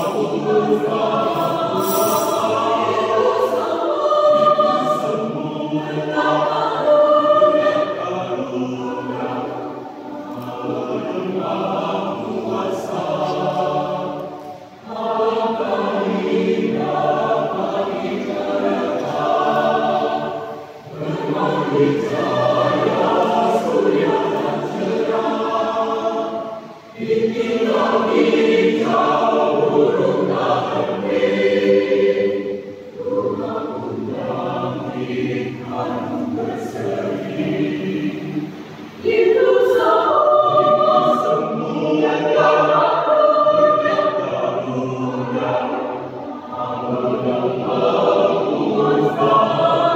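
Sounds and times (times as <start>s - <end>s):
mixed choir singing: 0.0s - 49.9s.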